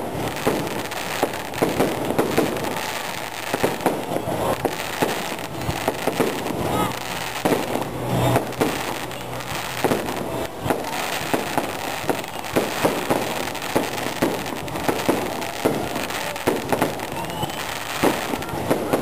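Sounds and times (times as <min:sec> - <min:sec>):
continuous noisy wash: 0:00.0 - 0:19.0
fireworks shells bursting: 0:00.0 - 0:19.0.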